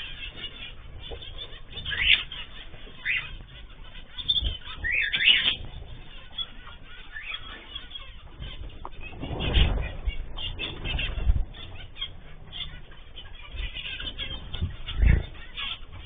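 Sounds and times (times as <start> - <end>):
birds calling: 0.0 - 16.0
wings fluttering: 0.0 - 16.0.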